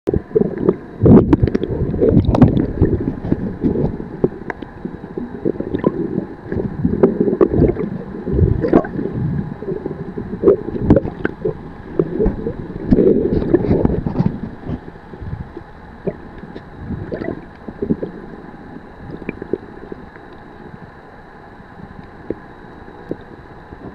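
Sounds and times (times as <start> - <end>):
muffled underwater sloshing: 0.1 - 23.9.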